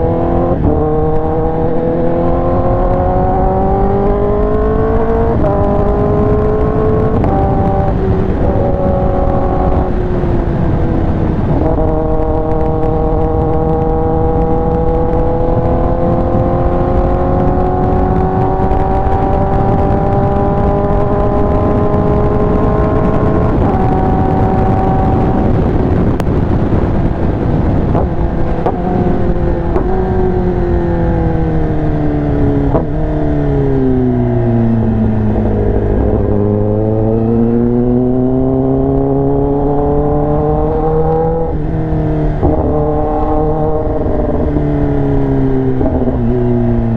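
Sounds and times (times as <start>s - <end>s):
motorcycle engine revving: 0.0s - 46.9s
wind noise rushing: 0.0s - 46.9s.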